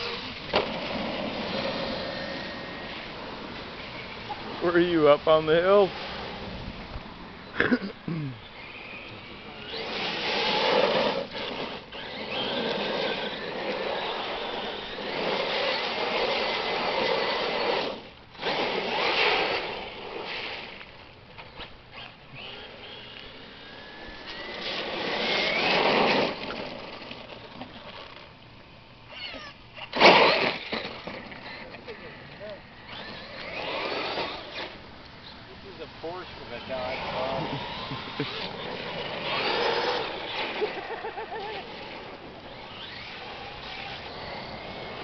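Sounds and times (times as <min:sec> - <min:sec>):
electric motor whining: 0:00.0 - 0:05.7, 0:08.4 - 0:20.9, 0:21.9 - 0:28.2, 0:29.9 - 0:34.8, 0:36.1 - 0:45.0.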